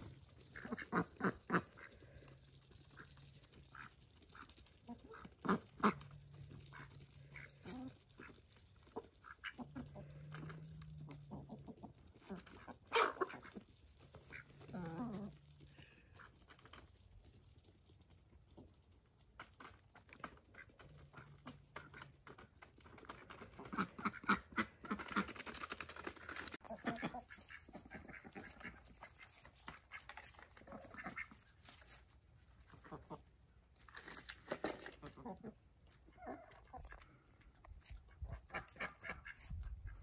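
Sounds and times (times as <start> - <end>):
bills pecking in feed: 0.0 - 40.0.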